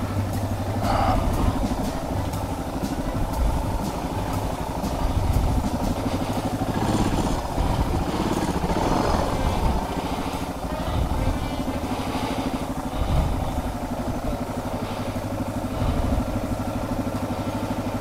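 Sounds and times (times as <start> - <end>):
faint ticking: 0.0 - 18.0
motorcycle engine running at low revs: 0.0 - 18.0.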